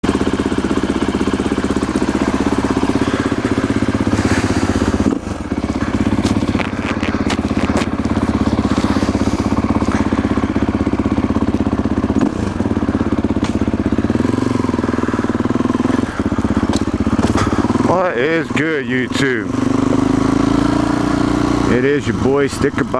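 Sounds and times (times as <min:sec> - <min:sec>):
motorcycle engine running: 0:00.0 - 0:22.9.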